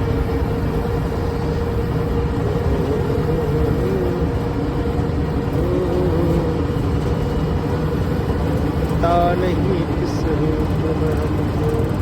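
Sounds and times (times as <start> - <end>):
combine harvester rumbling: 0.0 - 12.0
steady machine whine: 0.0 - 12.0.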